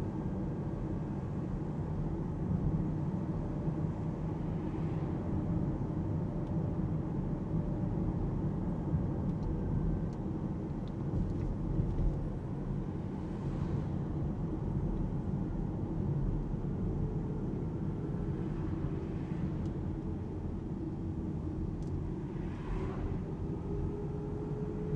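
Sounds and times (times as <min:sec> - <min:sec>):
road and tyre noise: 0:00.0 - 0:24.9.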